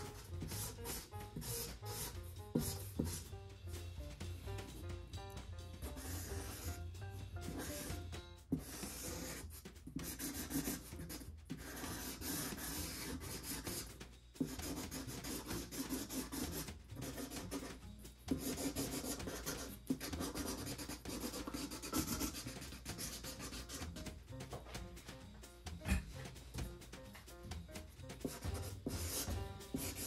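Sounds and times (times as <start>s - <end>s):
marker scratching on cardboard: 0.0s - 24.6s, 27.8s - 30.0s.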